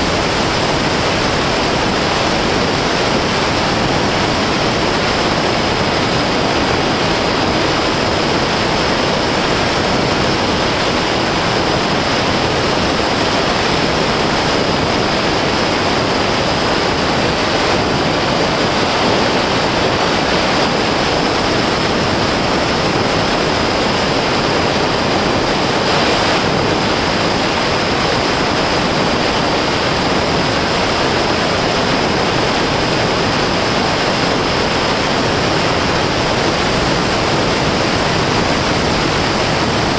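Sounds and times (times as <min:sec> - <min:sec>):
airflow and propeller noise: 0:00.0 - 0:39.9.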